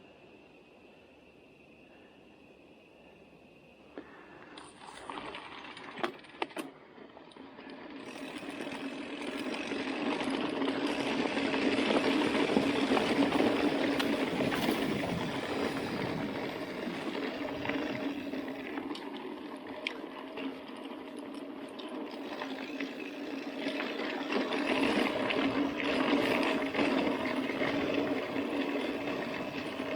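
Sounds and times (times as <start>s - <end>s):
bike tyre noise and rattle: 3.9s - 29.9s.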